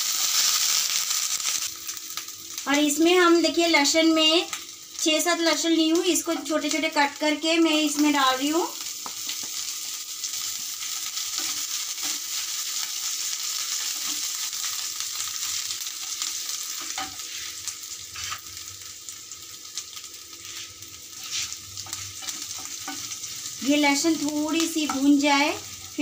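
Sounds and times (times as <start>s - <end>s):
garlic sizzling in oil: 0.0s - 26.0s.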